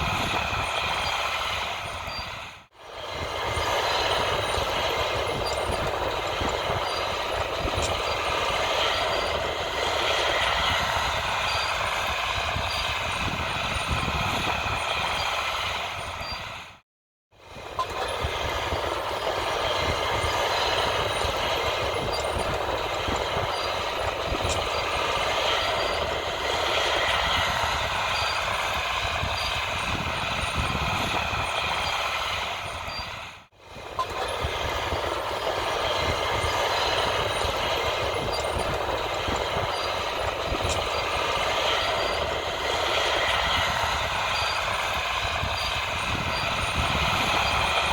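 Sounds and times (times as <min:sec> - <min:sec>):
tractor diesel engines running: 0:00.0 - 0:16.7, 0:17.5 - 0:47.9.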